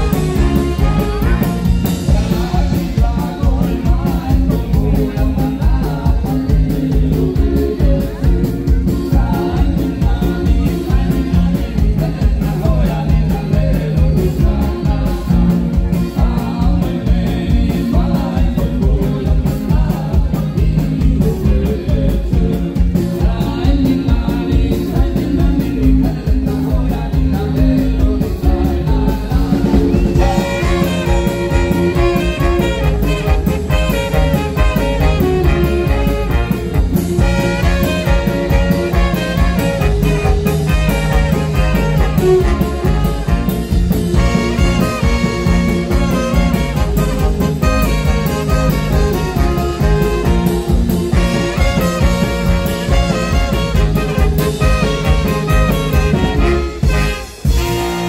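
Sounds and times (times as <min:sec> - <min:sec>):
live ska band playing: 0:00.0 - 0:58.0
person singing: 0:00.0 - 0:58.0.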